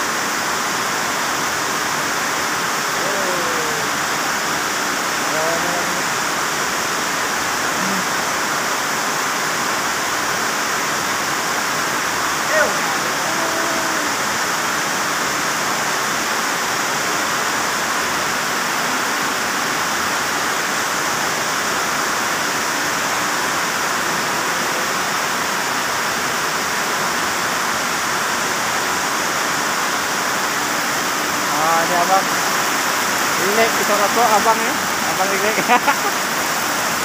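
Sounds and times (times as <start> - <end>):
heavy rain on a metal roof: 0.0 - 37.0.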